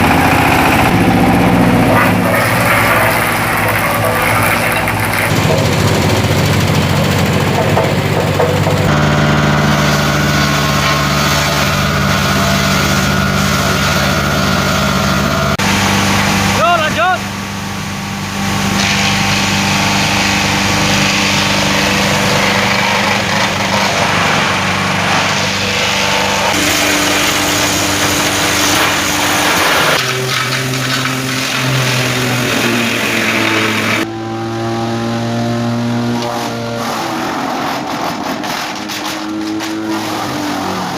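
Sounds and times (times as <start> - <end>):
wood chipper machine running: 0.0 - 40.9.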